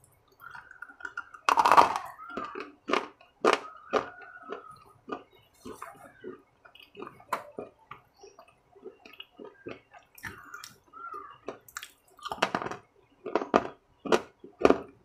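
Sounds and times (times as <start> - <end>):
person chewing and lip-smacking: 0.0 - 12.4.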